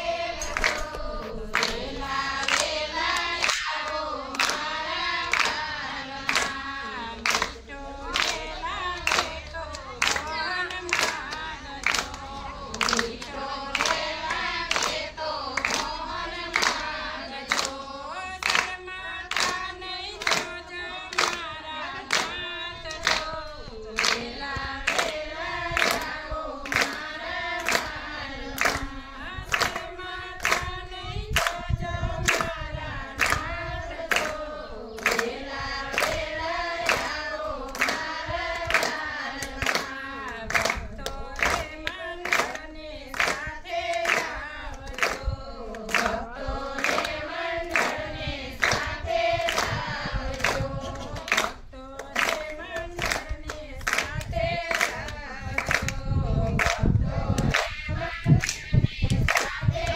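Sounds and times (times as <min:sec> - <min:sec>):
group singing devotional song: 0:00.0 - 0:59.9
hand claps keeping the beat: 0:00.1 - 0:59.9.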